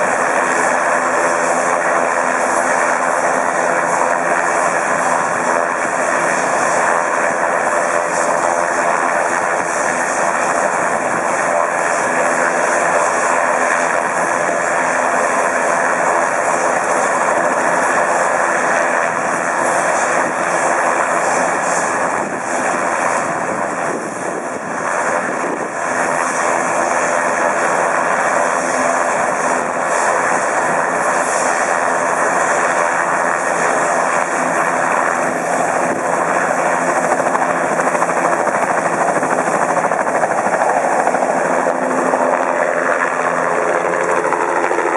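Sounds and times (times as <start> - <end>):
helicopter turbine and rotors: 0.0 - 44.9.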